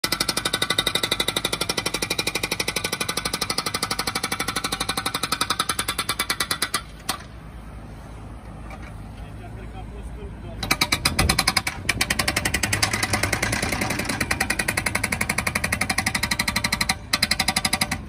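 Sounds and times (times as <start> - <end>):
hydraulic breaker hammering rapidly: 0.0 - 7.2, 10.6 - 18.0.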